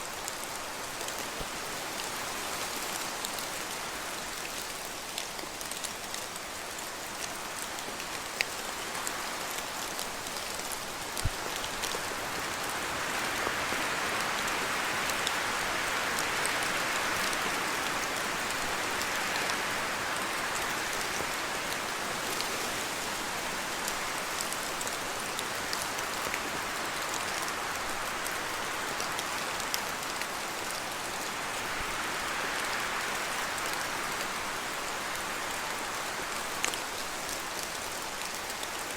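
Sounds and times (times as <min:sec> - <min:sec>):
rain falling through forest: 0:00.0 - 0:38.9
wind gusting through trees: 0:00.0 - 0:38.9.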